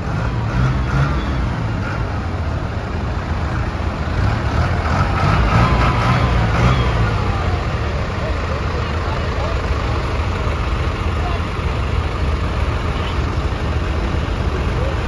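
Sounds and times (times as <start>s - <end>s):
tractor diesel engines idling: 0.0s - 15.0s.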